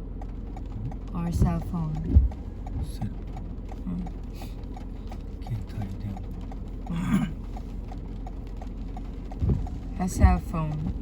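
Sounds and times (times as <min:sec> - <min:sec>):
low rumble: 0:00.0 - 0:11.0
fast even ticking: 0:00.1 - 0:11.0.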